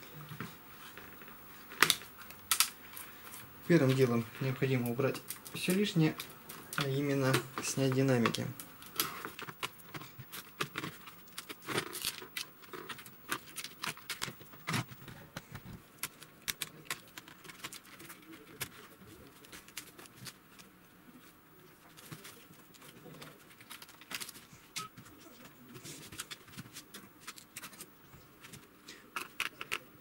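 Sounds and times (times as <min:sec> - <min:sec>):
hands handling electronics: 0:00.4 - 0:20.7, 0:21.8 - 0:30.0.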